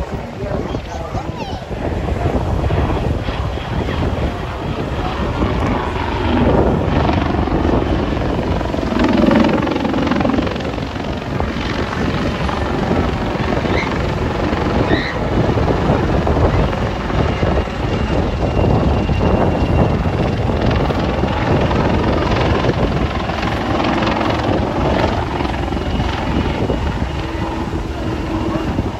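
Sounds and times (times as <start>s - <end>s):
helicopter rotor chop: 0.0s - 28.9s.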